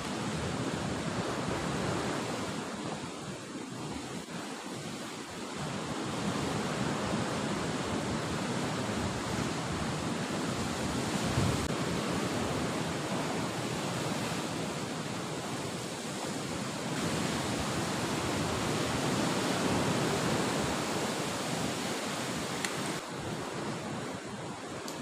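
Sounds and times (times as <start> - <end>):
ocean waves breaking on shore: 0.0 - 25.0.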